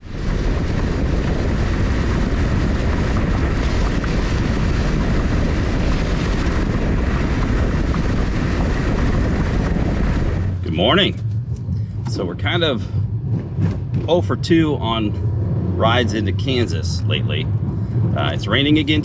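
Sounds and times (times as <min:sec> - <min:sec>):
vehicle road and engine noise: 0:00.0 - 0:19.0.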